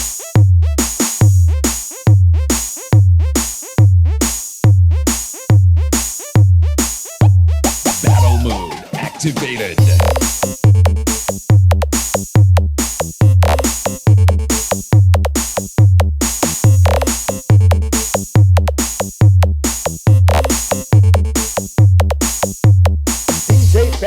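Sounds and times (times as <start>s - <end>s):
electronic dance music: 0.0s - 24.0s.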